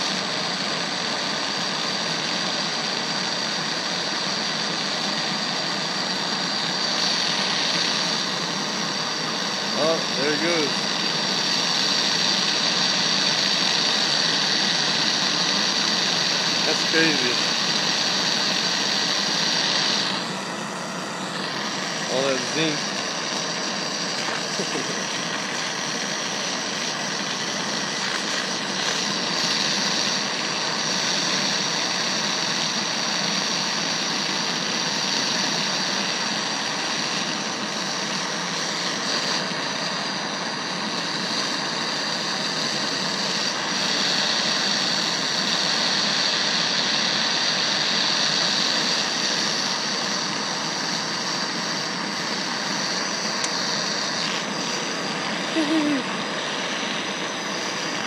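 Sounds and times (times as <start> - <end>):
gas torch flame hissing: 0.0 - 58.0.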